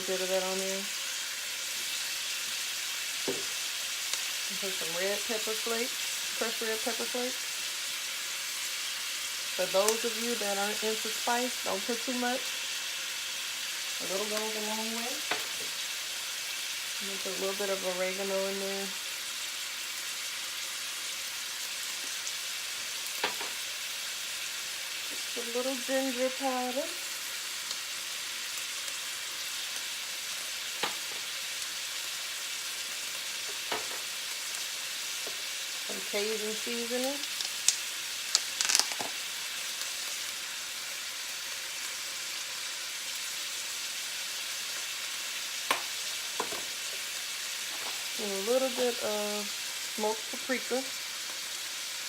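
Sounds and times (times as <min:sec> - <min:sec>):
vegetables sizzling in oil: 0:00.0 - 0:52.0.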